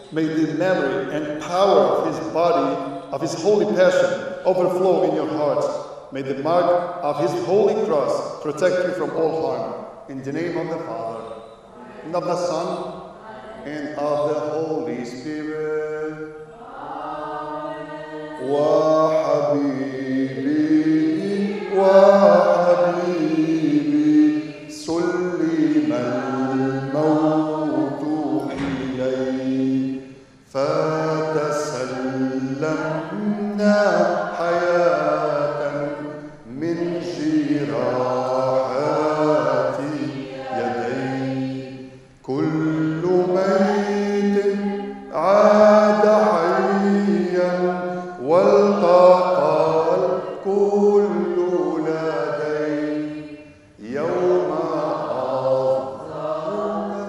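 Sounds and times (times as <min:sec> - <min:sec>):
man chanting a hymn: 0:00.0 - 0:16.5, 0:17.6 - 0:57.0.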